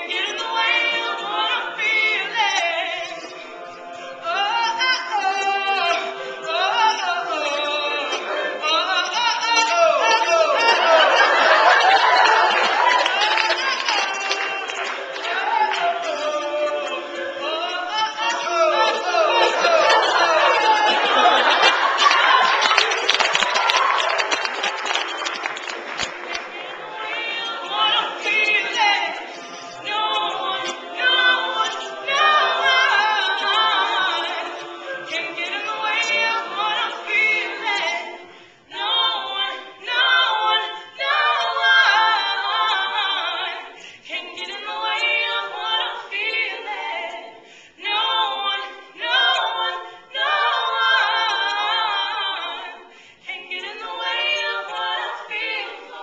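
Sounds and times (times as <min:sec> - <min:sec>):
a cappella backing vocals: 0:00.0 - 0:25.3, 0:26.0 - 0:56.0.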